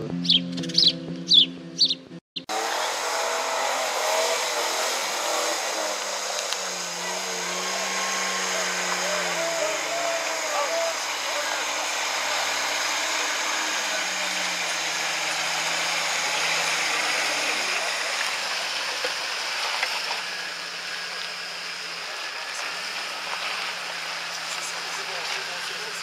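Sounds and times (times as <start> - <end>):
engine running at low revs: 0.0 - 26.0.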